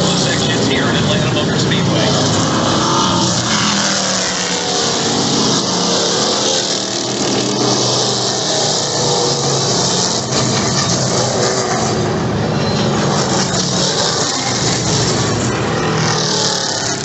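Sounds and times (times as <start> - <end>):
race truck engines passing: 0.0 - 17.0.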